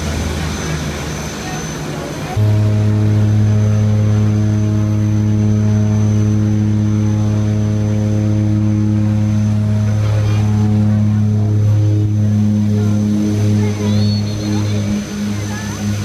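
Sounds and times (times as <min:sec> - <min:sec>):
aircraft engine idling drone: 0:00.0 - 0:16.0.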